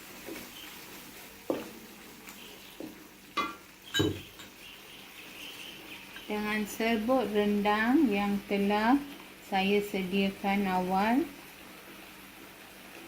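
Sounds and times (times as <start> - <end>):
spice paste sizzling in oil: 0.0 - 13.0.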